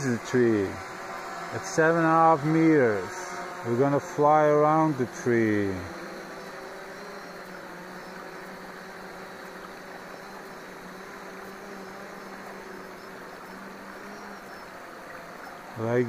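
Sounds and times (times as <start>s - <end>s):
background hiss: 0.0s - 16.0s
drone propeller hum: 0.0s - 16.0s.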